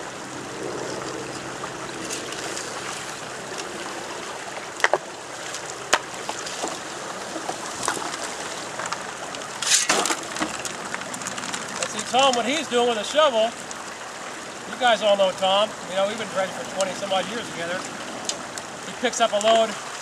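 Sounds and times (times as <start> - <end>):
creek water rushing: 0.0 - 20.0
water and gravel gushing: 0.0 - 20.0.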